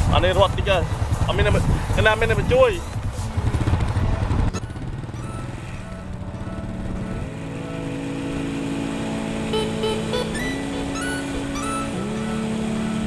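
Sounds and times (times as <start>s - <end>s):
background music: 0.0s - 13.0s
small motorcycle engine running: 0.0s - 13.0s.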